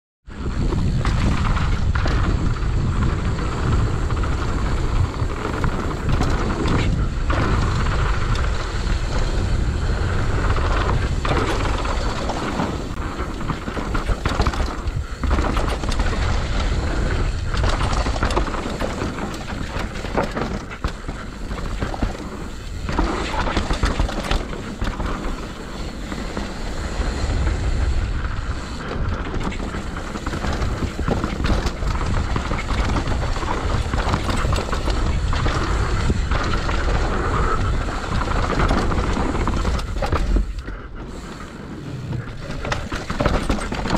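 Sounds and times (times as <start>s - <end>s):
wind rumbling on microphone: 0.2s - 43.9s
bike clattering over bumps: 0.3s - 43.9s
tyres rolling over dirt: 0.3s - 43.9s.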